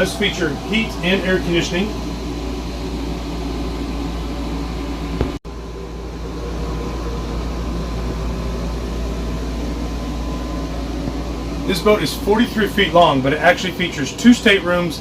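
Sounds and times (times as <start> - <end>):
air conditioning hum: 0.0 - 15.0.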